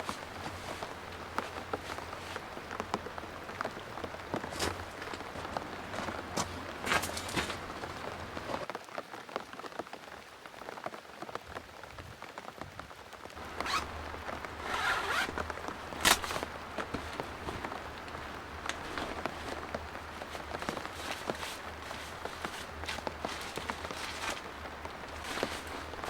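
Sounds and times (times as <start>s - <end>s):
rain falling steadily: 0.0s - 26.0s.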